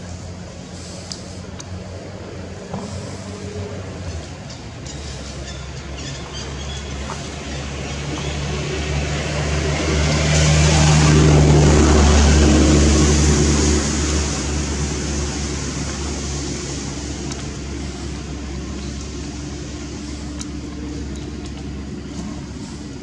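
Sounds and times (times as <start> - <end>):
vehicle engine passing: 0.0 - 23.0.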